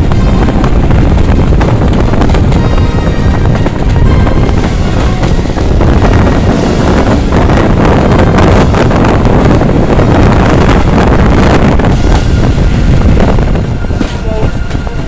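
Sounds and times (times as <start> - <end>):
train rumbling on track: 0.0 - 15.0
wind buffeting microphone: 0.0 - 15.0.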